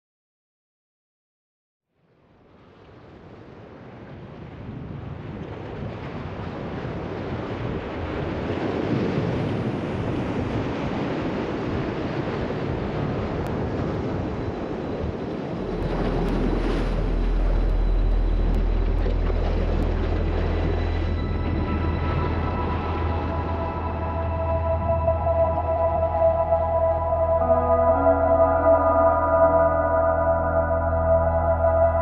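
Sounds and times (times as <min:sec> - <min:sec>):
ocean surf washing ashore: 0:02.7 - 0:29.2.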